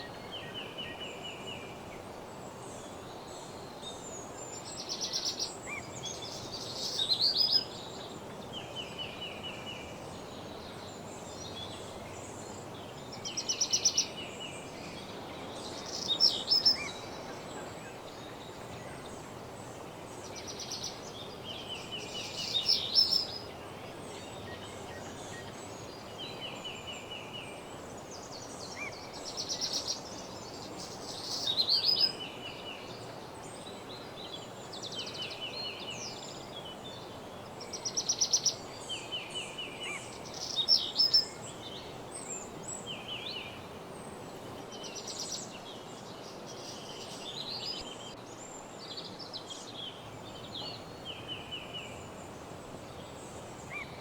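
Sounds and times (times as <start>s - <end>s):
songbirds singing trills: 0.0s - 54.0s
woodland ambience hiss: 0.0s - 54.0s.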